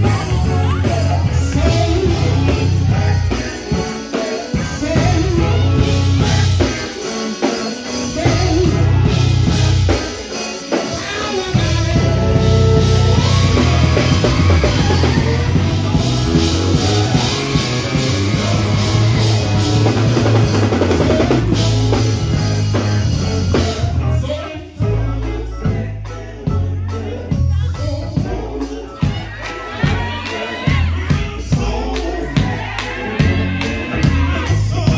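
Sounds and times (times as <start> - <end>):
heavy bass line: 0.0 - 7.0, 7.9 - 10.3, 10.9 - 34.9
drum kit: 0.0 - 24.2, 24.8 - 34.9
electric guitar: 0.0 - 34.9.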